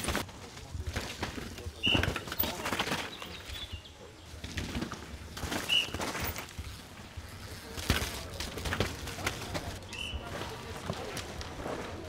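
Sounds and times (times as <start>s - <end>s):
bike chain and suspension clatter: 0.0s - 11.7s
tyres through mud: 0.0s - 12.0s.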